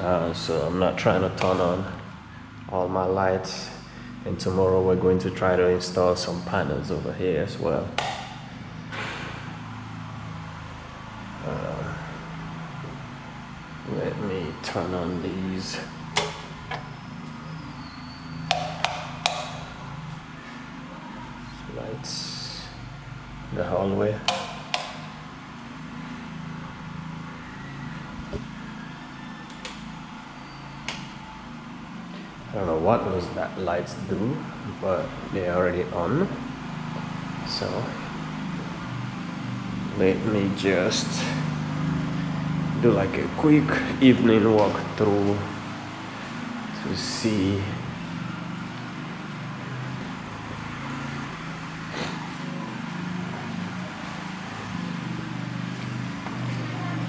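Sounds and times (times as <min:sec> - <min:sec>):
generator humming: 0:00.0 - 0:57.0.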